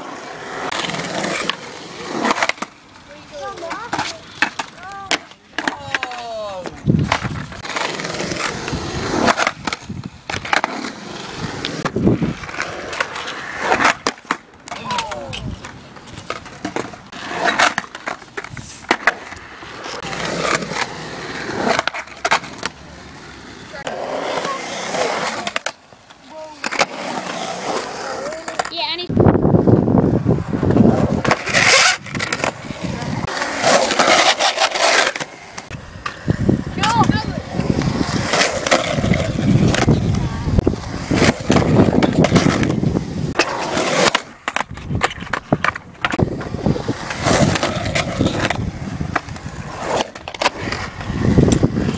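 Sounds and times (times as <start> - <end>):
skateboard clacking on concrete: 0.0 - 29.1, 30.3 - 51.9
skateboard wheels rolling on concrete: 0.0 - 51.9.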